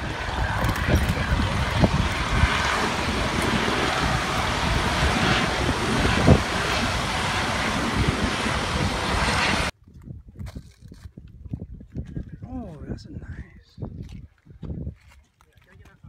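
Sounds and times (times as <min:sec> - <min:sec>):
wind on microphone: 0:00.0 - 0:15.2.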